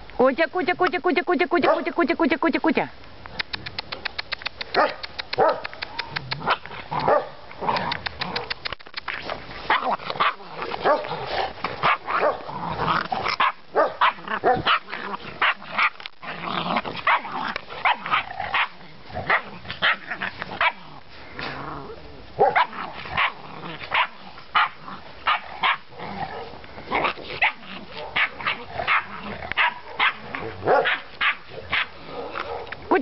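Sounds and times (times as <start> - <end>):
dogs barking and yapping: 1.6 - 2.0, 3.5 - 21.6, 22.3 - 33.0.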